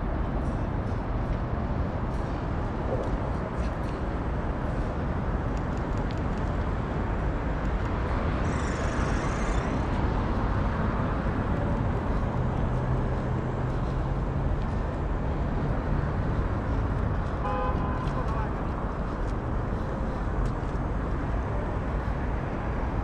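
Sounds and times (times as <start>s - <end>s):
low engine hum: 0.0s - 23.0s
road traffic noise: 0.0s - 23.0s.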